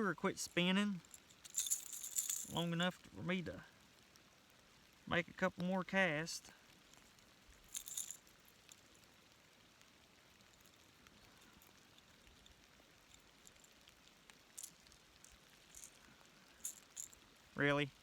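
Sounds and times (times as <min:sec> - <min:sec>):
light rain hiss: 0:00.0 - 0:18.0
raindrop ticks: 0:00.0 - 0:18.0.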